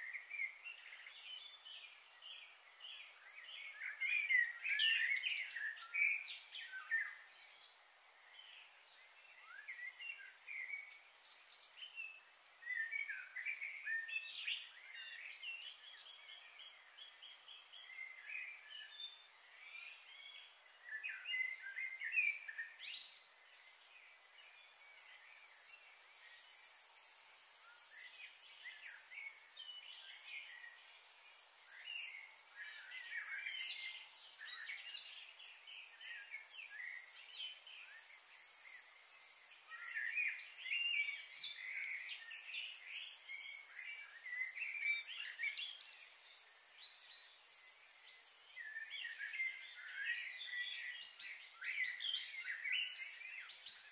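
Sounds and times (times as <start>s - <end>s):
birds singing and chirping: 0.0s - 53.9s
faint steady hiss: 0.0s - 53.9s.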